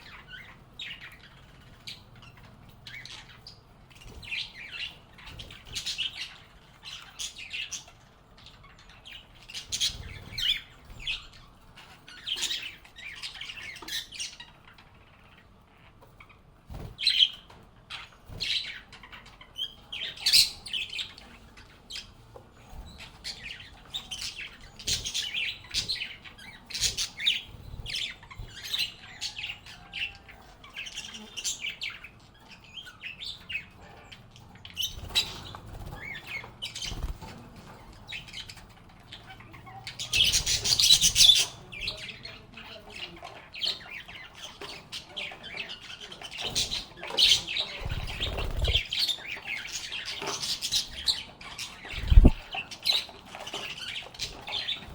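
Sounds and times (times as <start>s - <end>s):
lovebirds chirping: 0.0s - 54.9s.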